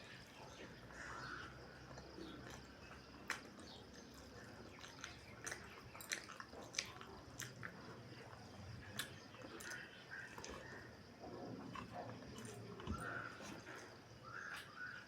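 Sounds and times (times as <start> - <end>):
chewing and mouth clicks: 0.2 - 15.0.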